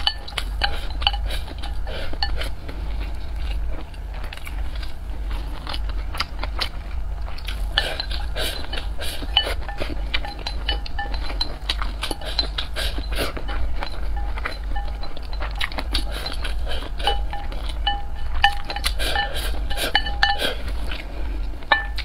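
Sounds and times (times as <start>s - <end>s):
chewing and mouth sounds: 0.0s - 22.0s
steady low hum: 0.0s - 22.0s.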